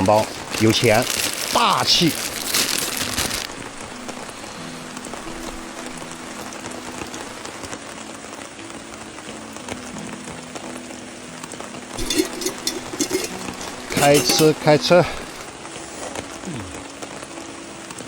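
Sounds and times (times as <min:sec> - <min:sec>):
steady rain falling: 0:00.0 - 0:12.0, 0:12.7 - 0:18.0
faint background music: 0:00.0 - 0:18.0.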